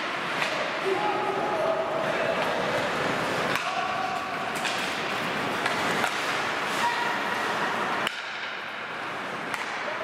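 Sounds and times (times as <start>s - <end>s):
hockey sticks and puck clicking: 0.0s - 0.8s, 2.2s - 10.0s
skates scraping on ice: 1.9s - 10.0s.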